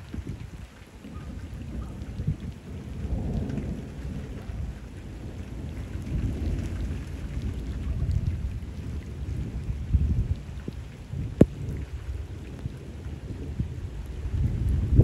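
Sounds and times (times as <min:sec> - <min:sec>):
rain pattering on water: 0:00.0 - 0:15.0
thunder rumbling: 0:00.0 - 0:15.0.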